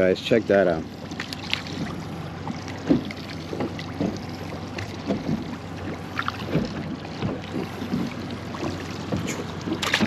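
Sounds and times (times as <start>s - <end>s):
steady low hum: 0.0s - 10.0s
waves lapping against boat hull: 0.0s - 10.0s.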